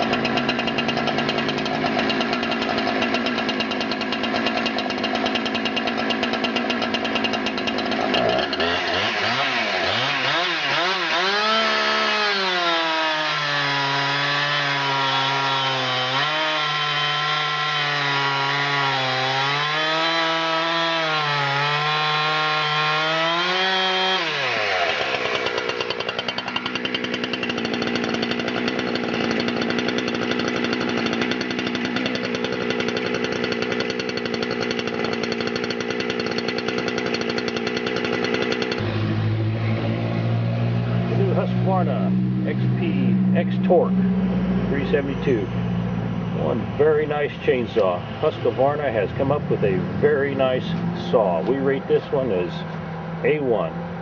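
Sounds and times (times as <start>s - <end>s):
chainsaw cutting into log: 0.0s - 43.8s
chainsaw idling and revving: 0.0s - 45.8s, 46.4s - 54.0s.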